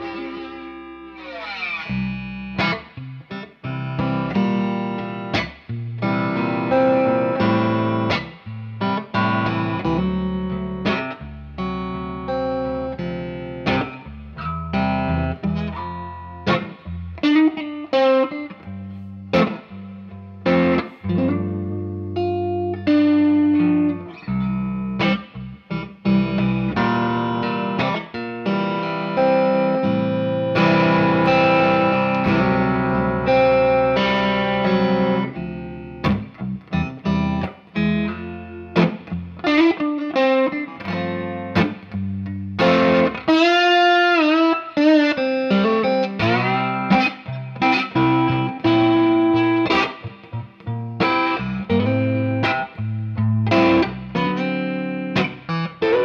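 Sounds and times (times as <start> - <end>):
electric guitar: 0.0 - 56.0.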